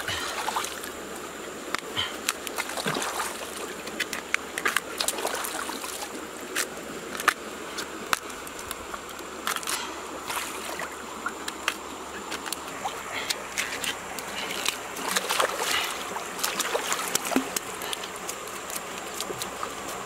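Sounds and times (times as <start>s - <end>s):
flowing river water: 0.0s - 20.0s
water splashing and dripping: 0.0s - 20.0s.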